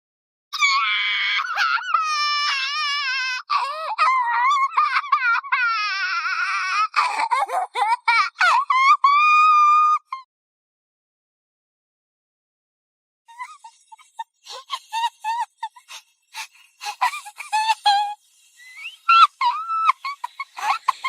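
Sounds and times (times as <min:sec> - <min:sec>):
cartoon girl crying: 0:00.6 - 0:10.3, 0:13.3 - 0:21.0.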